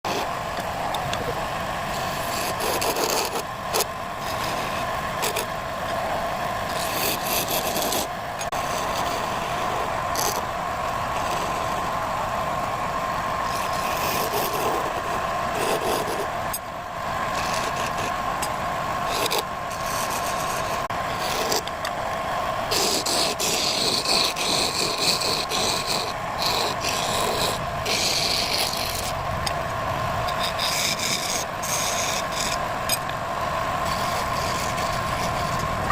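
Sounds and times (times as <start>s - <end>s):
wood scraping and rasping: 0.1s - 6.0s, 6.6s - 12.1s, 13.4s - 16.6s, 17.2s - 21.7s, 22.6s - 35.9s
woodworking machine whining: 0.1s - 35.9s.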